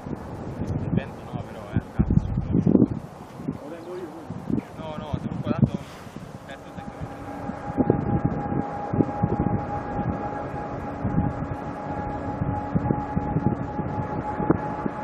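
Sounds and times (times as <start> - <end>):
jet engines whining: 0.0 - 15.0
rough crackling rumble: 0.0 - 15.0.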